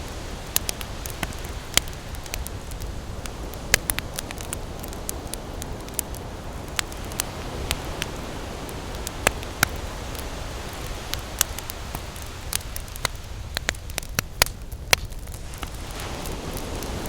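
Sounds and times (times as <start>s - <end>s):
campfire crackling and popping: 0.0s - 17.0s
ocean surf rumble: 0.0s - 17.0s.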